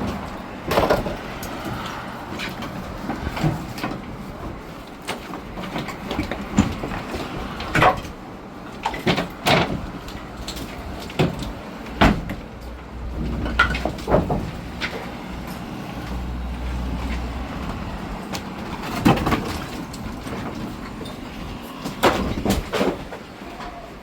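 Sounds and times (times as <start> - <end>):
hard knocks and clatters: 0.0 - 15.7, 17.0 - 23.7
steady background noise: 0.0 - 24.0.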